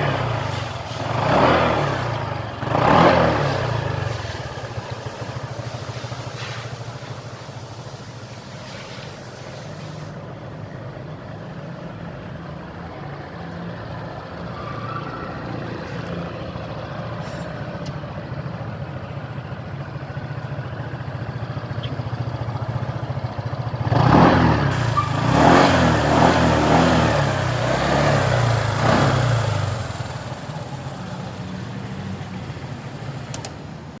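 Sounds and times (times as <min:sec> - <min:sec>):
scooter engine idling and revving: 0:00.0 - 0:34.0.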